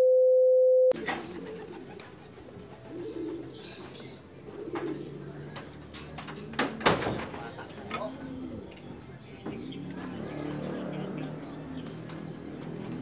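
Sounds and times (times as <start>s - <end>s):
pigeons cooing: 1.0s - 13.0s.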